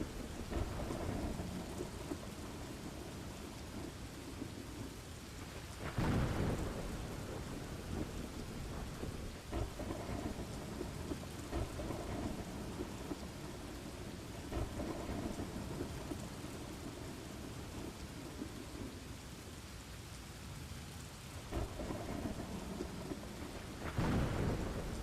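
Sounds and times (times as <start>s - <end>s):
thunder rumbling: 0.0s - 19.1s, 21.5s - 25.0s
steady rain: 0.0s - 25.0s.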